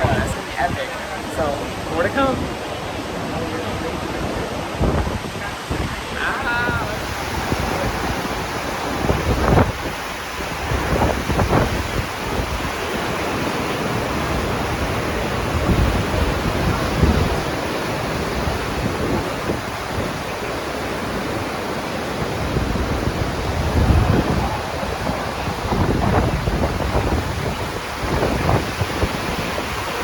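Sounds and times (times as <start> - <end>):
wind blowing across microphone: 0.0 - 30.0.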